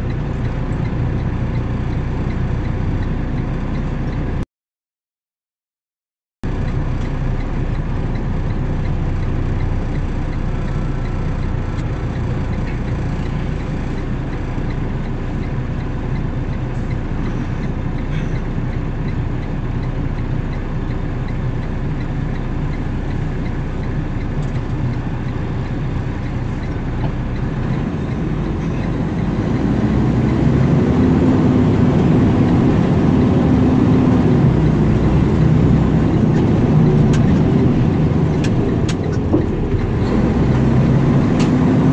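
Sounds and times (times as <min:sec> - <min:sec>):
road noise: 0:00.0 - 0:04.4, 0:06.4 - 0:41.9
vehicle engine idling: 0:06.4 - 0:41.9.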